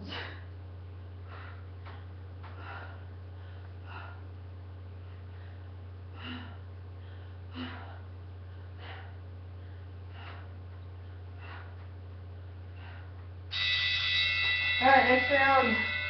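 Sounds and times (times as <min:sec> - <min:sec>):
woman's sharp breaths: 0:00.0 - 0:13.5
steady low hum: 0:00.0 - 0:16.0.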